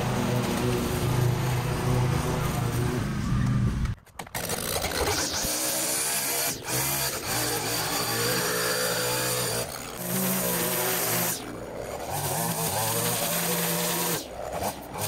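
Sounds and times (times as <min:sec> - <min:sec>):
string trimmer engine: 0:00.0 - 0:03.3, 0:04.2 - 0:15.0
mower engine running: 0:00.0 - 0:15.0.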